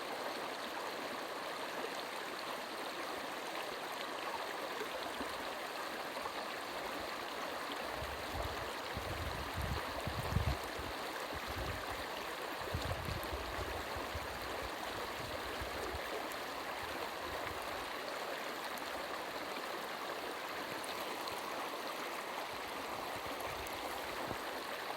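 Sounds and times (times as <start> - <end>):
brook babbling over stones: 0.0 - 24.9.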